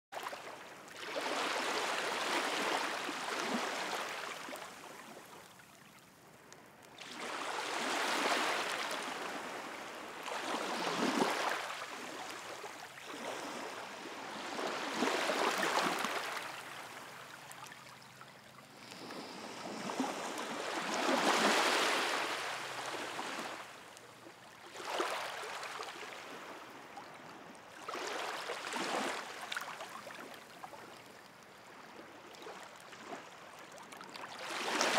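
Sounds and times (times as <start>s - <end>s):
sea waves washing onto shore: 0.2s - 34.9s.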